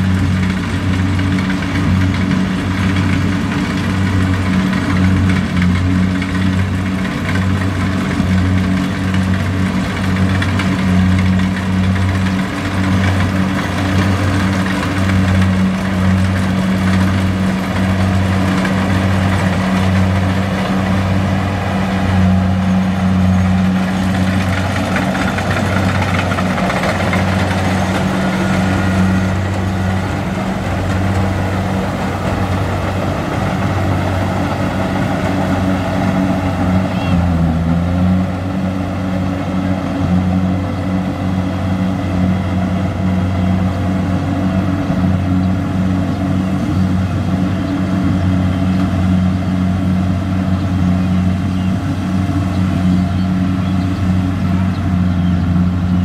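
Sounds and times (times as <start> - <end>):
diesel engine drone: 0.0 - 56.0
harvester machinery rushing: 0.0 - 56.0.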